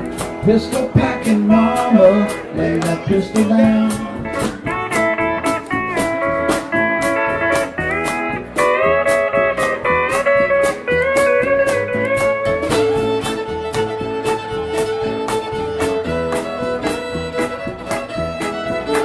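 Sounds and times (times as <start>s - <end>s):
bass: 0.0s - 19.0s
even drum beat: 0.0s - 19.0s
guitar: 0.0s - 19.0s
steel guitar sliding notes: 0.0s - 19.0s.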